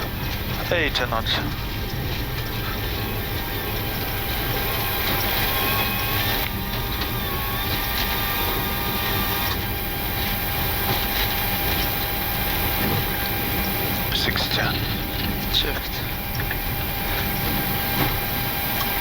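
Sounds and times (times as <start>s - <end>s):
jet engines: 0.0s - 19.0s
wheels rumbling on runway: 0.0s - 19.0s.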